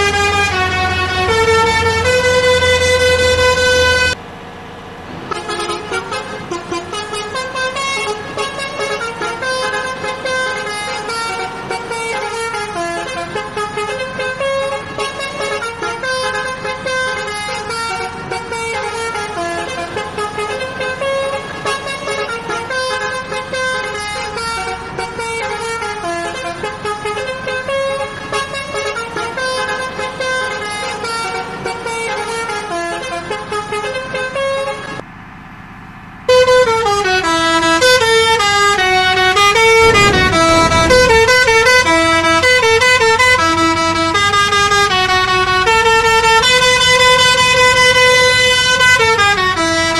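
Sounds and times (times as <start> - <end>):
air horn playing a melody: 0.0 - 4.2, 5.3 - 35.0, 36.3 - 49.9.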